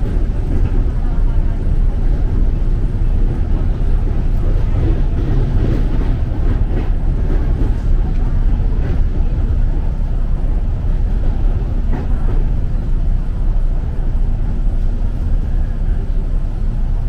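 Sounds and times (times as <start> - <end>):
train wheels and motors rumbling: 0.0 - 17.0.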